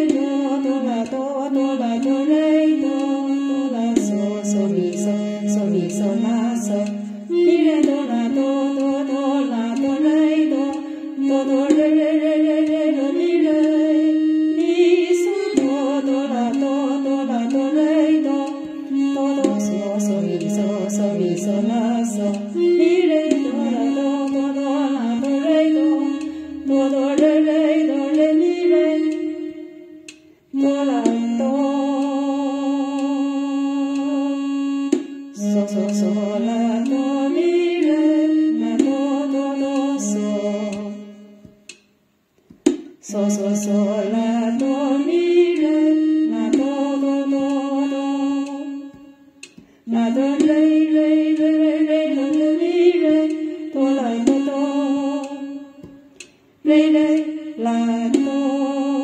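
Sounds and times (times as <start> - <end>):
woman singing ballad: 0.0 - 29.8, 30.6 - 41.5, 49.9 - 59.0.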